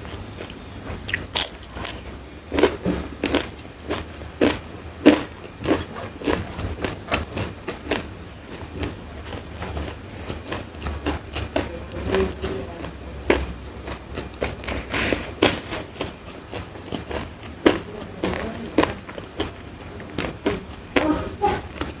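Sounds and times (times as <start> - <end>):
chewing crisp food: 0.0 - 22.0
faint low hum: 0.0 - 22.0.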